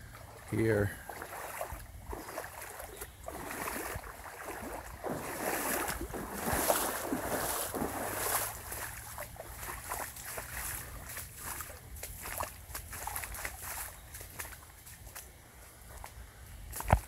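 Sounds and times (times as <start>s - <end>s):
boots sloshing through water: 0.0s - 17.0s.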